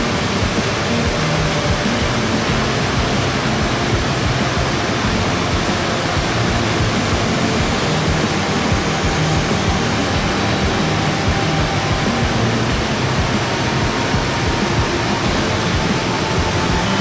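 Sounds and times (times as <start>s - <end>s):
floodwater roaring over a weir: 0.0s - 17.0s.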